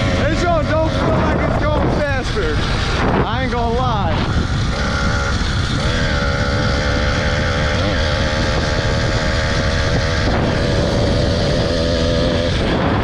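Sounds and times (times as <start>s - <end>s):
small motorbike engine running: 0.0s - 13.0s
wind rumbling on microphone: 0.0s - 13.0s.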